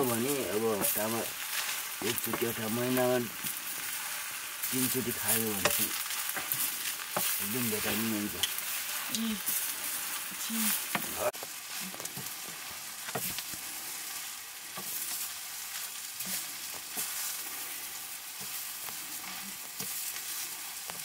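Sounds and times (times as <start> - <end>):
vegetables sizzling in a wok: 0.0 - 21.0
spatula clicking and scraping pan: 0.1 - 21.0.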